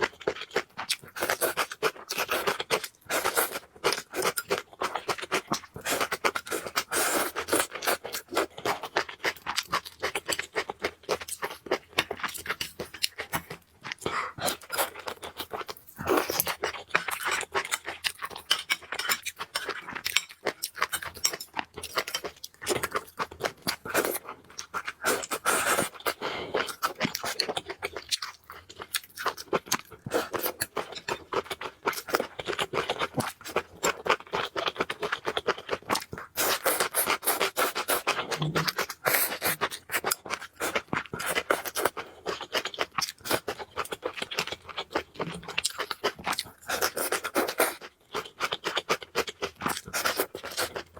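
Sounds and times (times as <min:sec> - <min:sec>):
chewing noodles: 0:00.0 - 0:50.9.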